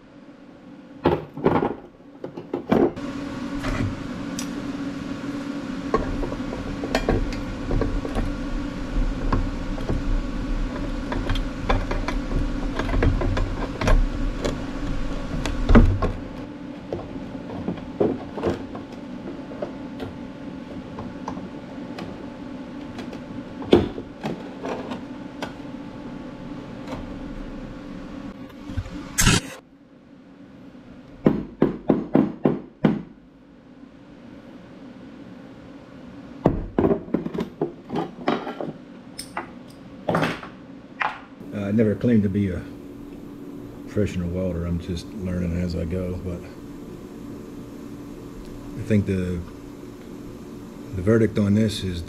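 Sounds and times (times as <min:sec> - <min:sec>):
machine hum: 0:00.0 - 0:52.0.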